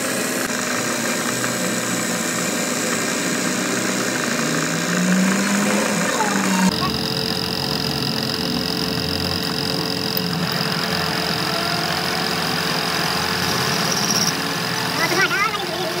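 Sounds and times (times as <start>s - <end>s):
high lathe whine: 0.0s - 16.0s
metal lathe hum: 0.0s - 16.0s.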